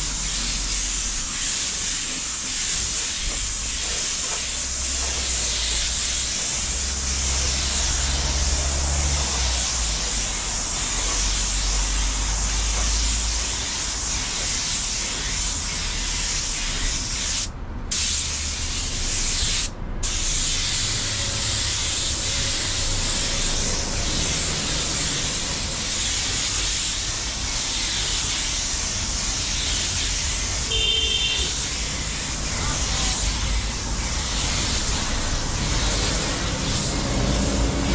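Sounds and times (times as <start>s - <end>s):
paint spray gun hissing: 0.0s - 37.9s.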